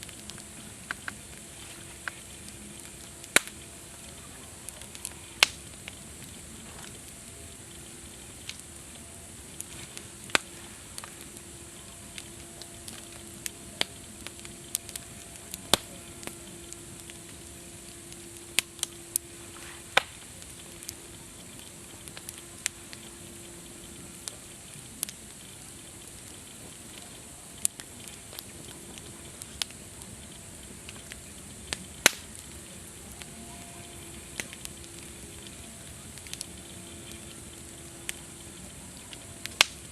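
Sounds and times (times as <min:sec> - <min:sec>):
burning wood popping: 0:00.0 - 0:39.9
campfire crackling: 0:00.0 - 0:39.9.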